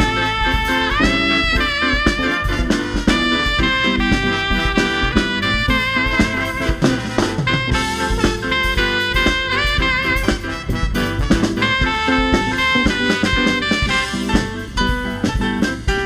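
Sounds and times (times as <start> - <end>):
drum kit beat: 0.0 - 16.0
saxophone lead: 0.0 - 16.0
swing jazz band: 0.0 - 16.0.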